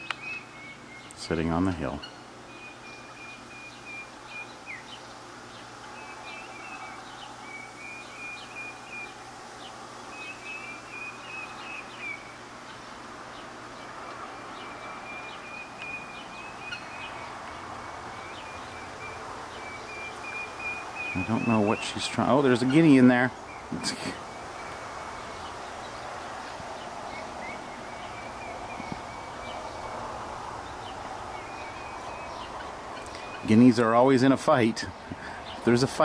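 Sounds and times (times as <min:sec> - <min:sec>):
bird trilling: 0:00.0 - 0:34.6
outdoor background noise: 0:00.0 - 0:36.0.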